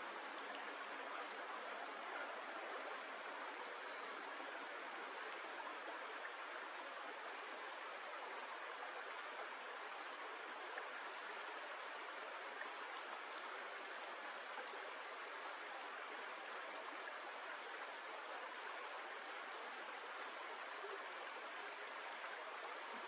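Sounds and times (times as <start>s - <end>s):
flowing stream water: 0.0s - 23.0s.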